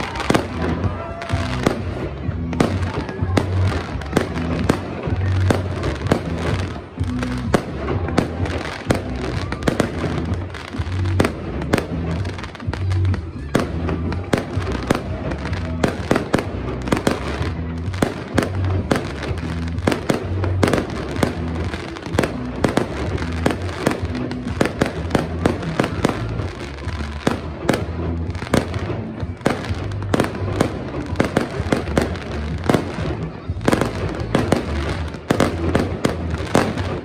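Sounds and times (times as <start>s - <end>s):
fireworks bursts and bangs: 0.0s - 37.0s
fireworks crackling: 0.0s - 37.0s
music with steady bass: 0.0s - 37.0s.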